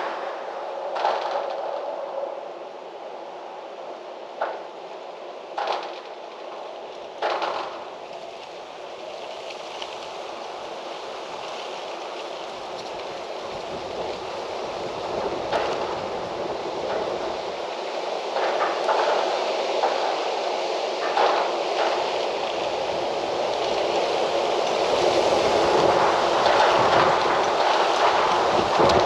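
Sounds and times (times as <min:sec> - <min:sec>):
wind blowing through trees: 0:00.0 - 0:29.0.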